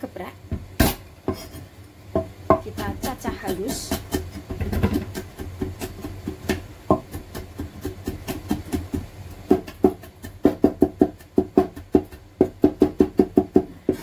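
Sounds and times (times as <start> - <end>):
knife chopping on wooden board: 0.5 - 1.6, 2.2 - 14.0.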